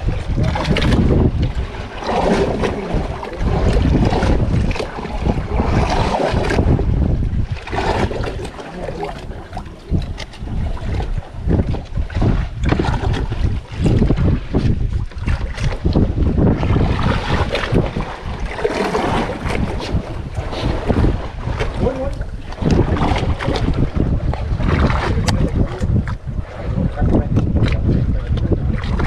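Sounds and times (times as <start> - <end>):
wind buffeting microphone: 0.0 - 29.0
water sloshing around hull: 0.1 - 29.0.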